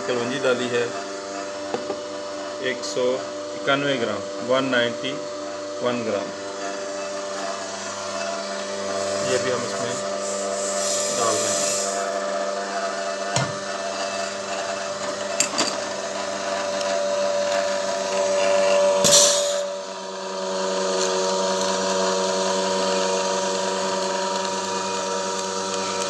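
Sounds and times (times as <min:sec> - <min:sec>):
oil press motor hum: 0:00.0 - 0:26.0.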